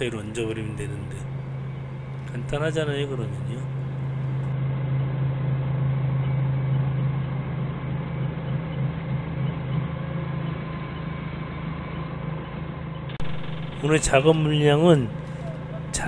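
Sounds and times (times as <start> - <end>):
forklift diesel engine droning: 0.0 - 16.0.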